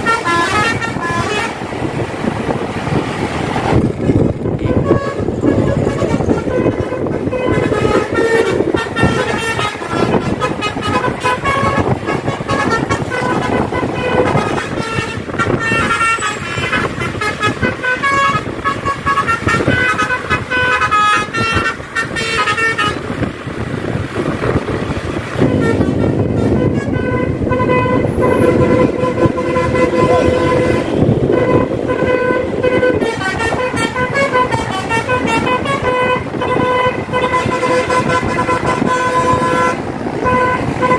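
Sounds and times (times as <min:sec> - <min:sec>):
musical bus horn tune: 0:00.0 - 0:02.0, 0:04.6 - 0:23.8, 0:24.8 - 0:40.9
engine and road noise: 0:00.0 - 0:40.9.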